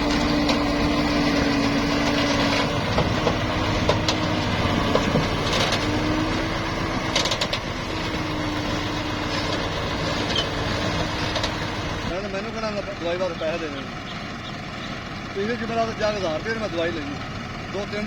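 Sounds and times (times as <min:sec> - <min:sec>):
truck engine running: 0:00.0 - 0:18.0
wavering engine whine: 0:00.0 - 0:18.0.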